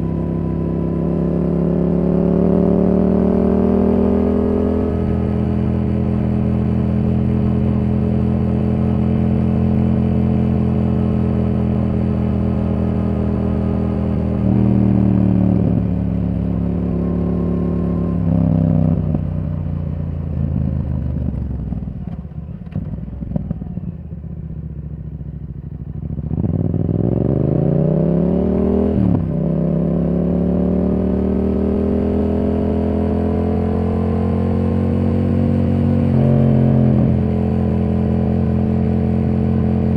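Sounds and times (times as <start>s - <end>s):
motorcycle engine revving: 0.0s - 19.6s, 26.0s - 39.9s.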